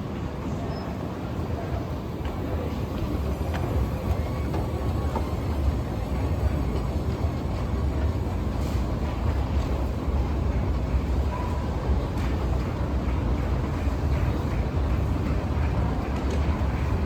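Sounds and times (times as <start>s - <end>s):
faint clicks of escalator steps: 2.2s - 17.0s.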